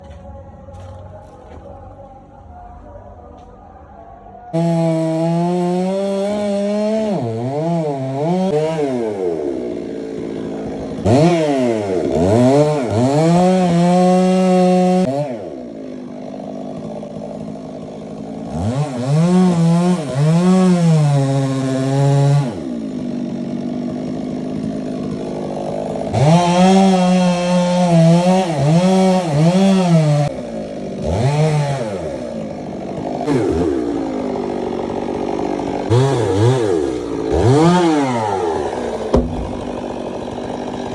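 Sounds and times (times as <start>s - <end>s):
chainsaw sawing wood: 4.5s - 40.9s.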